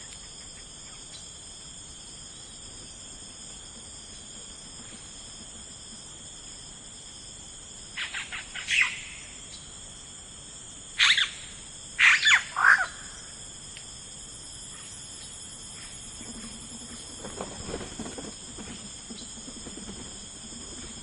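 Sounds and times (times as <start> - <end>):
crickets droning: 0.0 - 21.0.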